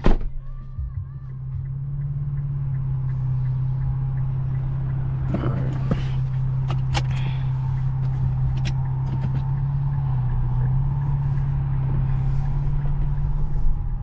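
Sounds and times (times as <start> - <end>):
car engine cruising: 0.0 - 14.0.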